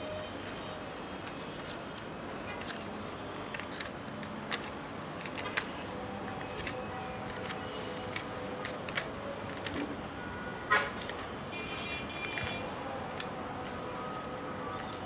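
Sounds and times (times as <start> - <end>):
city background noise: 0.0 - 15.0.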